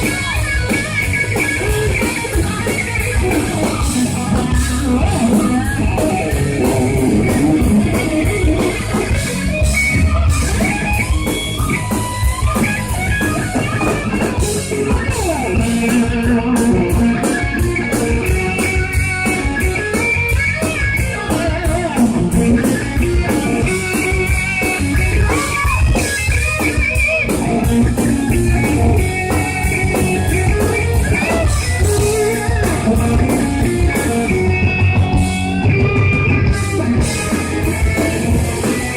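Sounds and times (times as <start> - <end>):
drum kit: 0.0 - 38.9
electric guitar: 0.0 - 38.9
hard rock band playing live: 0.0 - 38.9.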